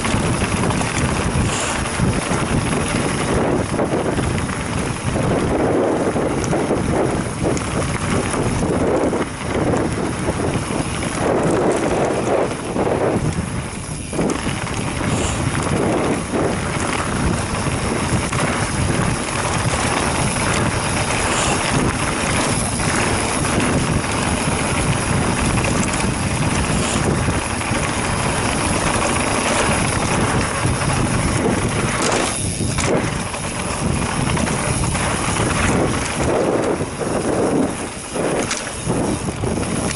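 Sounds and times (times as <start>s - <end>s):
bike tyres crunching over stones: 0.0s - 39.9s
wind on microphone: 0.0s - 39.9s.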